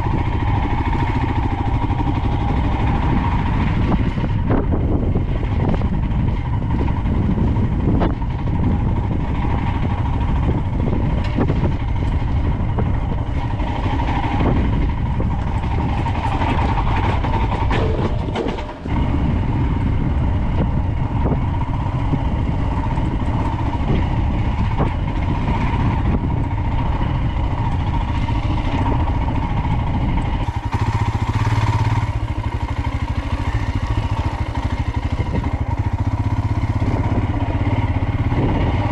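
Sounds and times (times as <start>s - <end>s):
motorcycle engine running: 0.0s - 38.9s
wind rush on microphone: 0.0s - 38.9s.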